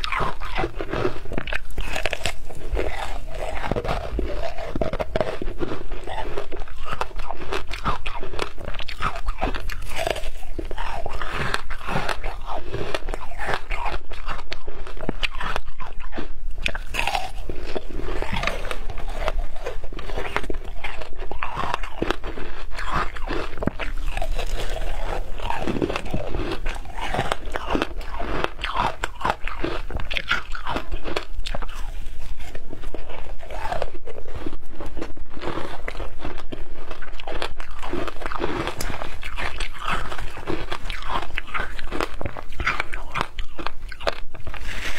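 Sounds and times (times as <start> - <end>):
crunching of ice: 0.0 - 44.9.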